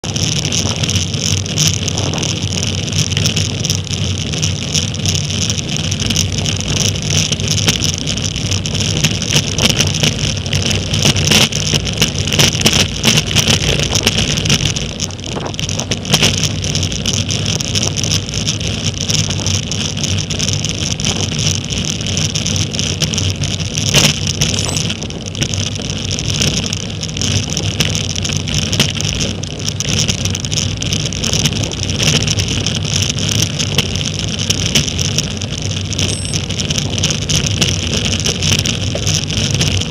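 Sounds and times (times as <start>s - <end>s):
tyre and road rumble: 0.0s - 39.9s
wind rushing on microphone: 0.0s - 39.9s.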